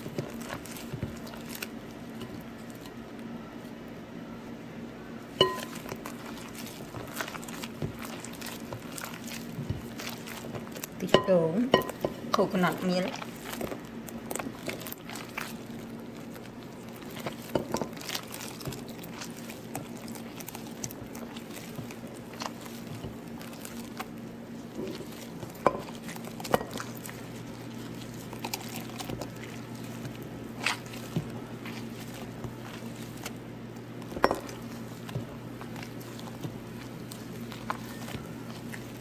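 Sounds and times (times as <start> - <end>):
hand squelching a mixture: 0.0 - 39.0.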